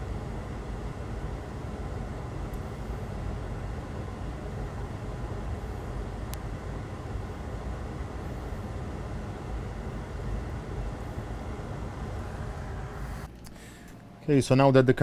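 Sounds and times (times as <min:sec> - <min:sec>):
low rumbling ventilation noise: 0:00.0 - 0:15.0.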